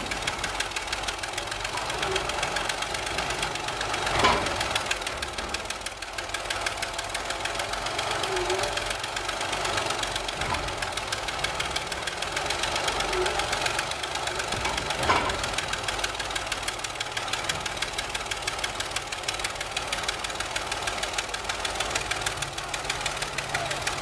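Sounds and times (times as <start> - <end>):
bulldozer diesel engine under load: 0.0 - 24.0.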